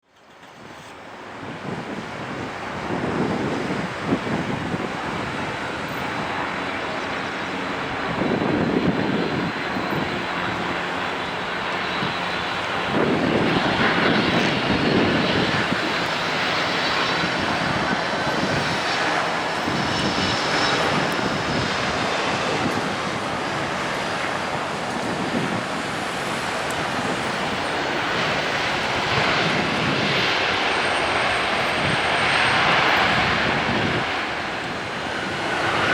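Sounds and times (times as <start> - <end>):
jet engines: 0.0 - 35.9
wind gusts on microphone: 0.5 - 35.9.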